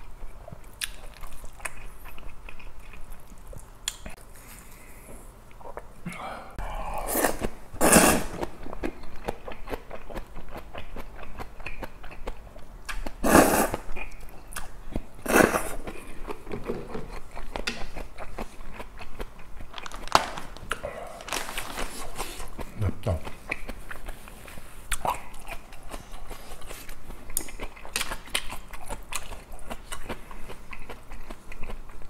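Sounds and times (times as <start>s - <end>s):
wet chewing and crunching: 0.0s - 4.9s, 8.3s - 32.0s.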